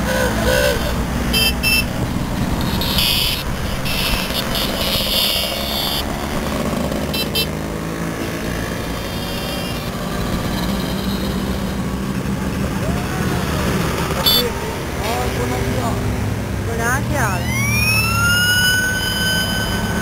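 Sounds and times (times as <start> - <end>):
horns beeping: 0.0 - 20.0
scooter engines buzzing: 0.0 - 20.0.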